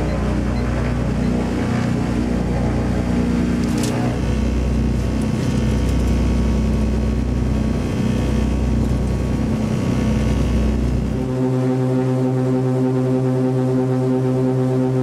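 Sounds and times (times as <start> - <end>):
aircraft piston engines droning: 0.0 - 15.0.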